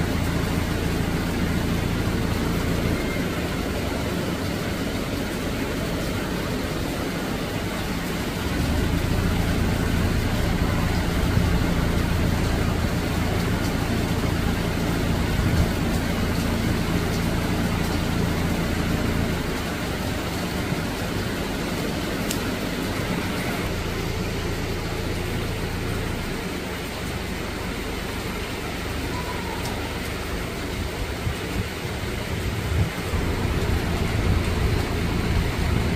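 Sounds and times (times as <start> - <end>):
heavy rain on leaves: 0.0 - 35.9
low engine hum: 0.0 - 35.9.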